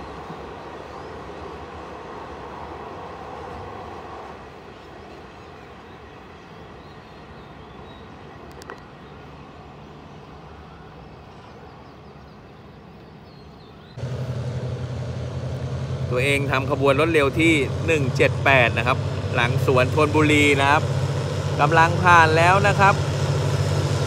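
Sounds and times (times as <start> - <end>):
train rumbling on track: 0.0 - 10.9, 13.9 - 24.0.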